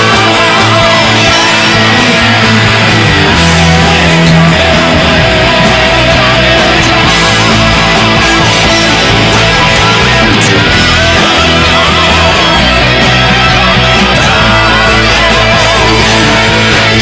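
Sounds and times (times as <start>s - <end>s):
electric guitar: 0.0s - 17.0s
rock band playing: 0.0s - 17.0s.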